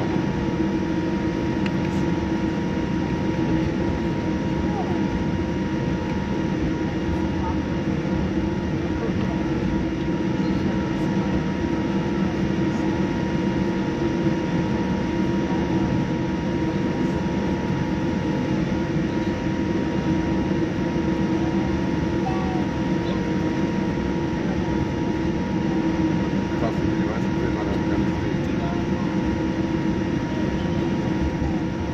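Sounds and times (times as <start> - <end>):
airplane cabin rumble: 0.0 - 31.9
constant hum: 0.0 - 31.9.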